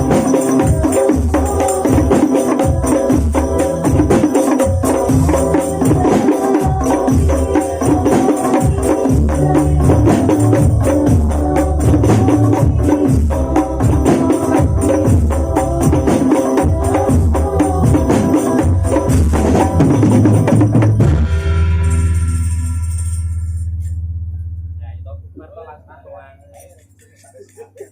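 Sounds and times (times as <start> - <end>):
frame drums and tambourine jingles: 0.0 - 24.0
deep drum pulses: 0.0 - 25.6.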